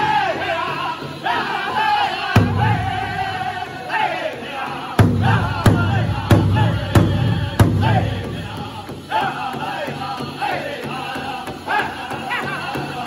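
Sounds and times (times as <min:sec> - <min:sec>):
men singing in high voices: 0:00.0 - 0:13.0
large hand drum beat: 0:01.2 - 0:13.0.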